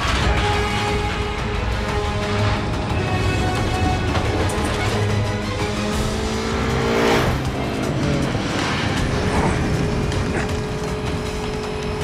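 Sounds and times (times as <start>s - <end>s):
film score music: 0.0s - 12.0s
speeding car engines: 1.3s - 12.0s.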